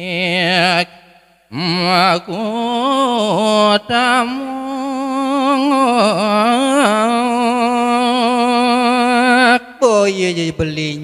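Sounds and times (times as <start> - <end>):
man singing with vibrato: 0.0 - 11.0.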